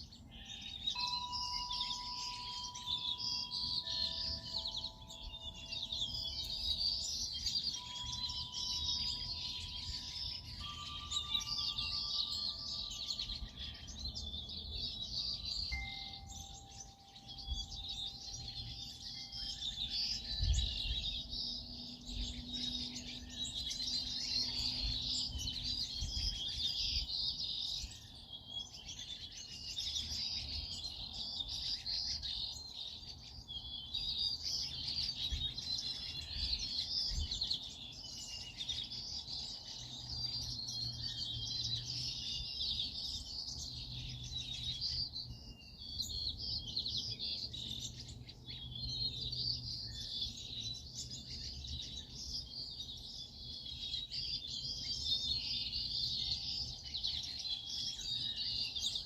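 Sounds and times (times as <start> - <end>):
chorus of small birds chirping: 0.0 - 59.0.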